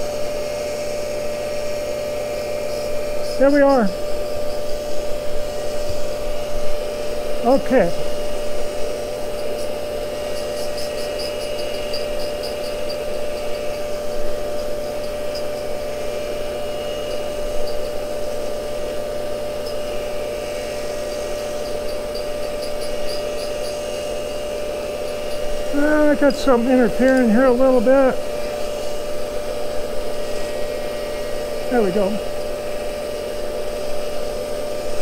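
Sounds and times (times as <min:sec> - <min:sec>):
grinder whining: 0:00.0 - 0:35.0.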